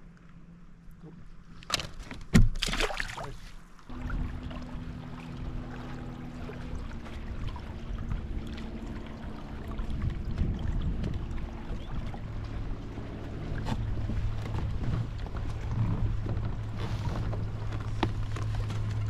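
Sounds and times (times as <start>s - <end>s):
low hum: 0.0s - 19.0s
water lapping against hull: 0.1s - 19.0s.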